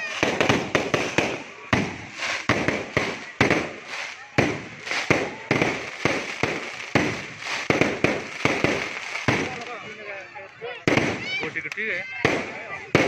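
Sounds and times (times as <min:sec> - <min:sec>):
fireworks bangs with echo: 0:00.0 - 0:10.0, 0:10.8 - 0:13.0.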